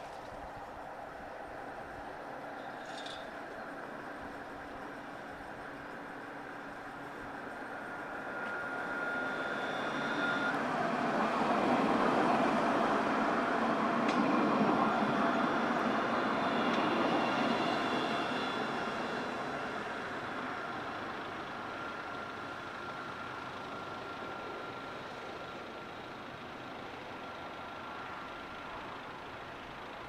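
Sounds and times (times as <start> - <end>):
faint whining tones: 0.0 - 30.0
tram passing: 0.0 - 30.0.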